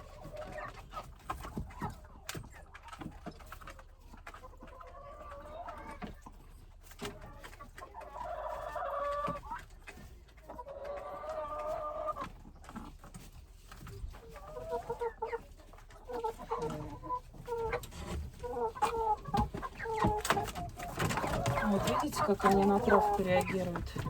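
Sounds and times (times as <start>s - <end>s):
chicken drawn-out calls: 0.0s - 24.0s
chickens clucking: 0.0s - 24.0s.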